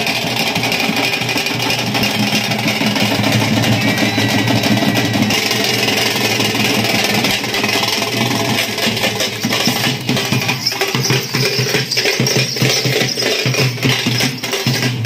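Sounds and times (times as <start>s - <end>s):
group of drummers beating drums: 0.0s - 15.0s.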